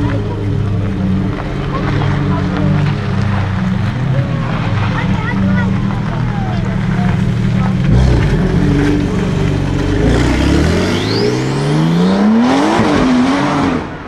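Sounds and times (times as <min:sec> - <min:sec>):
sports car engine accelerating: 0:00.0 - 0:14.0.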